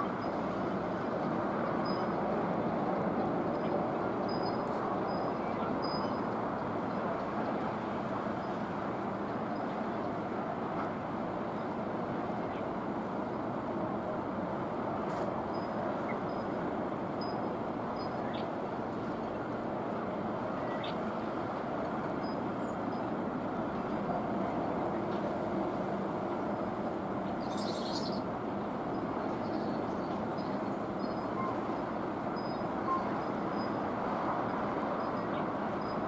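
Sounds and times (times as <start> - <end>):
steady rushing noise: 0.0 - 36.0.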